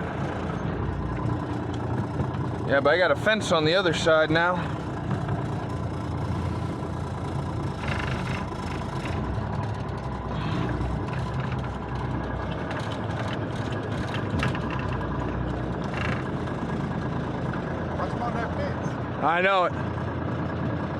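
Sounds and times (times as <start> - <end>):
truck diesel engine rumbling: 0.0 - 20.9.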